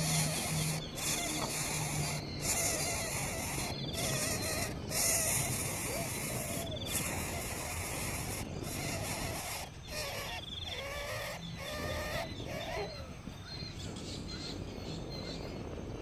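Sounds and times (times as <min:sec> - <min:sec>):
insect chorus hissing: 0:00.0 - 0:16.0.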